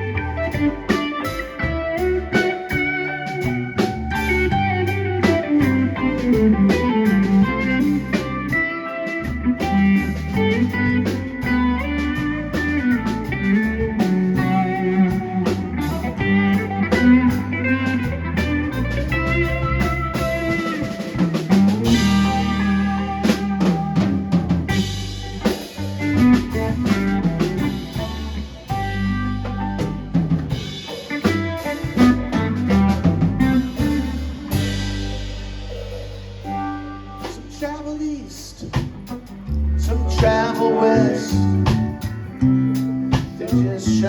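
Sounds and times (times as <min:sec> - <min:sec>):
blues-rock band playing: 0:00.0 - 0:44.0.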